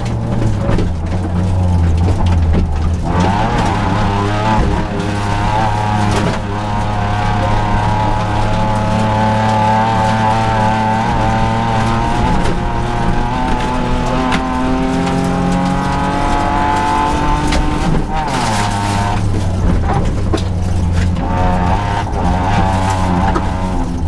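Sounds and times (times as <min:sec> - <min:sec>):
car engine under load: 0:00.0 - 0:24.0
gravel noise from tyres: 0:00.0 - 0:24.0.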